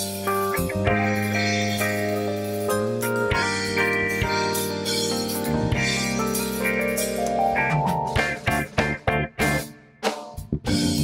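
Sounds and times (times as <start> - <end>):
drums and cymbals: 0.0 - 11.0
held keyboard chords: 0.0 - 11.0.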